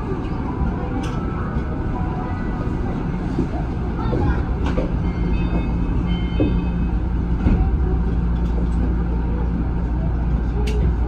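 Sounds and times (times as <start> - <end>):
train equipment humming: 0.0 - 11.0.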